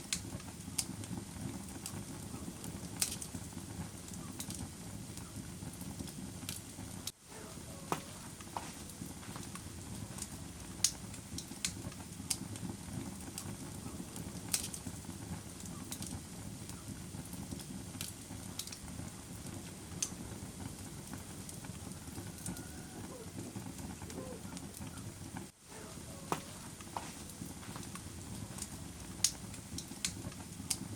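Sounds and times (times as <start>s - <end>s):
fire crackling in fireplace: 0.0s - 30.9s.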